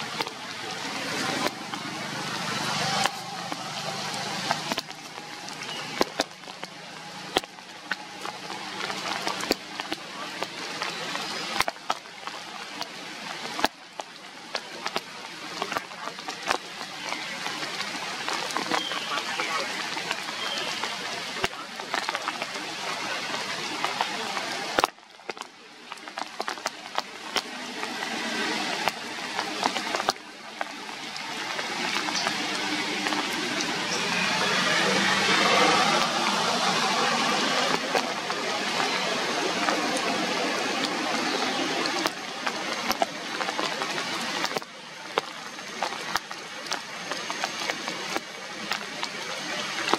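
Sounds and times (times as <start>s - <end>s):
rain falling on leaves: 0.0s - 49.9s
sharp drip taps: 1.1s - 49.9s.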